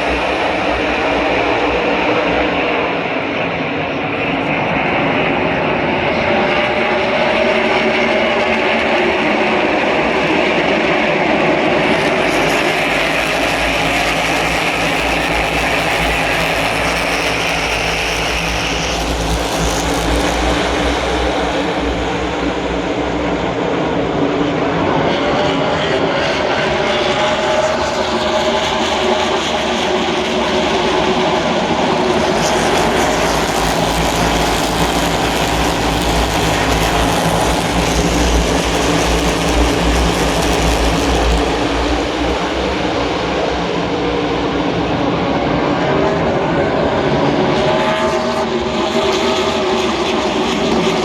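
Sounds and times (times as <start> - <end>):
race car engines roaring: 0.0 - 51.0.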